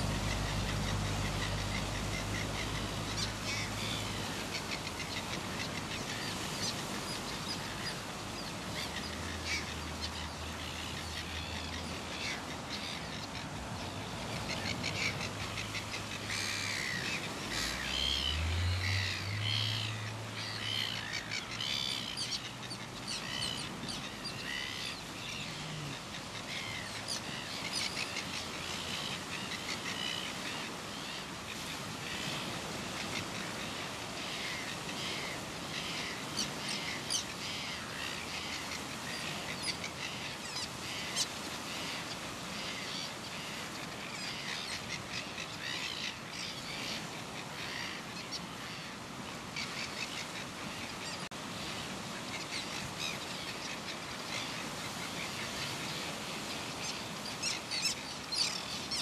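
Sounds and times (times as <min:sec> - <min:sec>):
gulls calling: 0:00.0 - 0:59.0.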